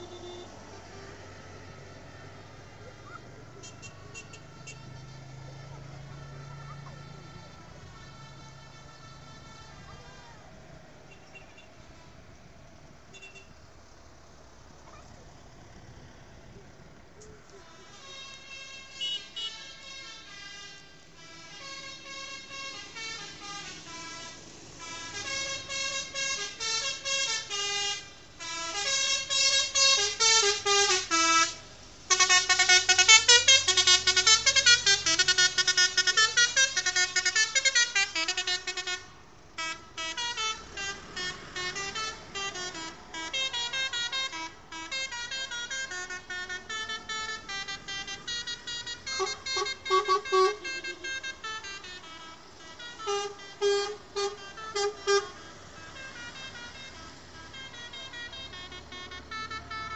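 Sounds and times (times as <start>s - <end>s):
musical vehicle horn playing tune: 0.0s - 2.2s, 3.6s - 10.3s, 13.1s - 13.7s, 17.6s - 59.9s
low rumble of passing engines: 0.0s - 59.9s.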